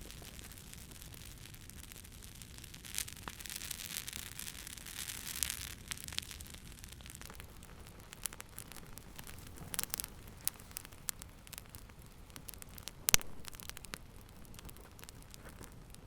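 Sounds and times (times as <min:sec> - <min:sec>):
low steady hiss: 0:00.0 - 0:16.0
wood fire pops and snaps: 0:00.0 - 0:16.0.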